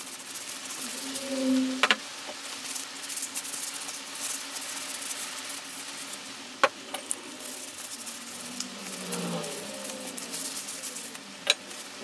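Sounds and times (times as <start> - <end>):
cloth rubbing on metal: 0.0 - 12.0.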